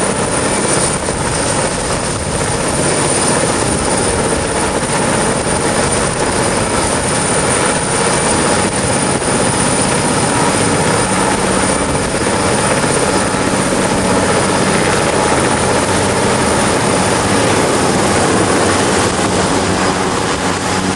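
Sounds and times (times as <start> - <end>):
helicopter rotor and turbine noise: 0.0 - 20.9.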